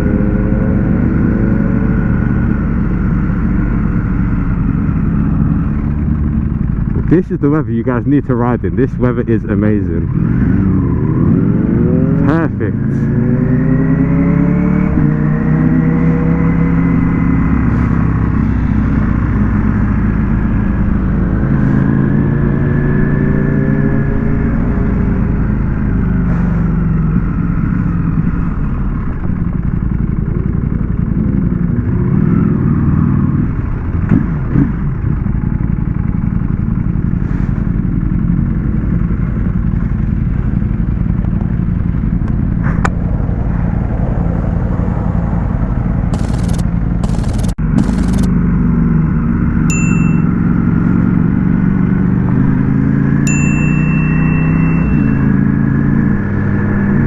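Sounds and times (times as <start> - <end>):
motorcycle engine accelerating: 0.0 - 7.4, 8.1 - 57.0.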